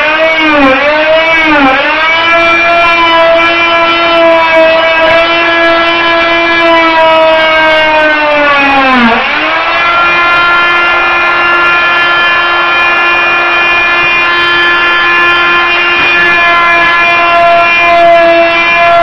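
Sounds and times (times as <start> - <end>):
oscillating tool whining: 0.0 - 19.0.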